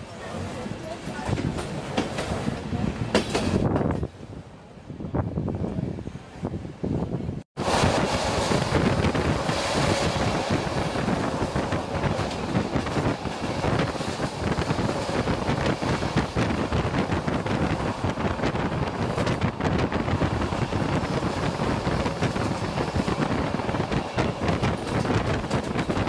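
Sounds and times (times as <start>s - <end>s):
moving passenger train: 0.0s - 26.0s
wind buffeting microphone: 1.1s - 26.0s.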